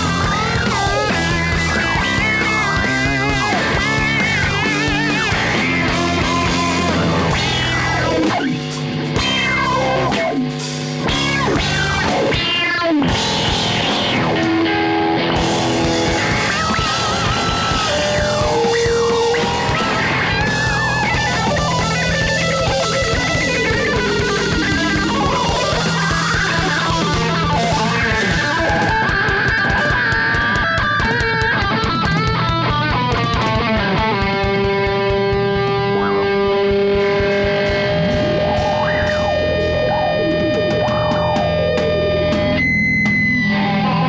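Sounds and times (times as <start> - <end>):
bass guitar: 0.0 - 44.0
drum kit: 0.0 - 44.0
electric guitar lead: 0.0 - 44.0.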